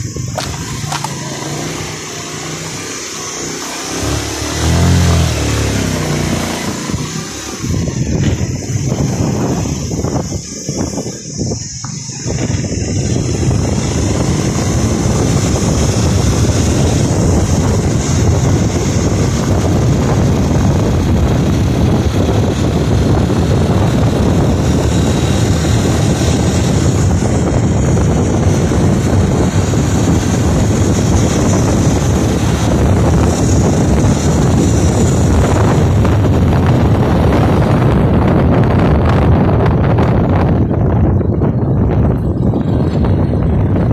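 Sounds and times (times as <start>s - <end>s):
motorbike engine running: 0.0s - 43.9s
wind noise on microphone: 0.0s - 43.9s.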